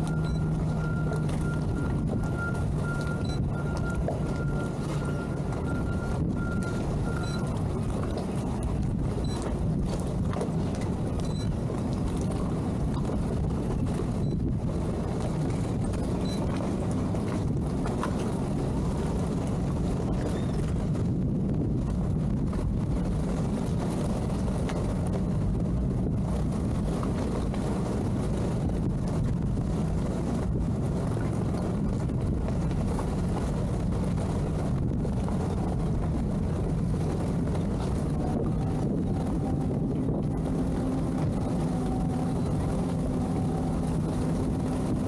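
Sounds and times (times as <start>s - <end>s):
outboard motors droning: 0.0s - 45.0s.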